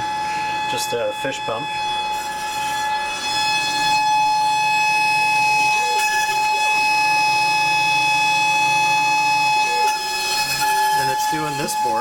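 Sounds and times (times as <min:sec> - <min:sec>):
spindle high-pitched whine: 0:00.0 - 0:12.0.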